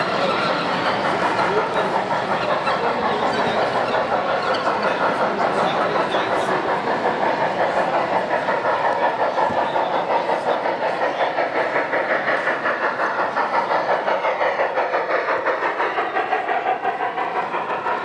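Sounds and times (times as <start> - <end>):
model train clattering on track: 0.0 - 18.0.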